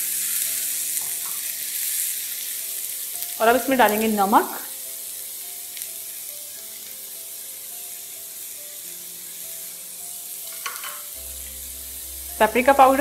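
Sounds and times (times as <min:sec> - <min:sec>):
quiet background music: 0:00.0 - 0:13.0
vegetables sizzling in oil: 0:00.0 - 0:13.0.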